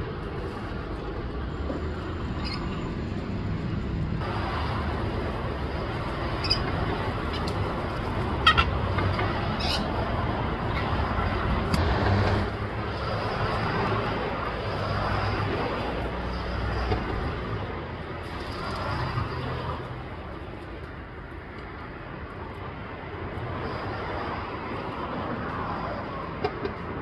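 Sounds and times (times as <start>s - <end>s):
low traffic rumble: 0.0s - 27.0s.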